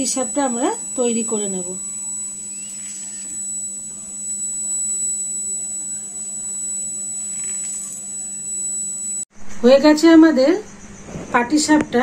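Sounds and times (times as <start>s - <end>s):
high-pitched whine: 0.0s - 11.5s
electrical hum: 0.0s - 12.0s.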